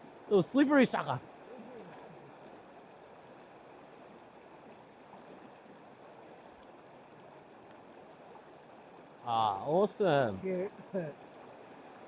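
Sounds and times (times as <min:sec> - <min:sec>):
faint running stream water: 0:00.0 - 0:12.0.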